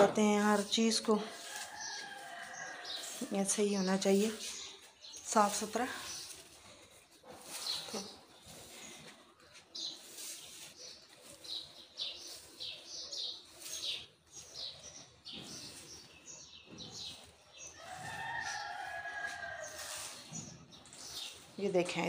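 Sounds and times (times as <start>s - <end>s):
broom sweeping concrete floor: 0.0s - 22.0s.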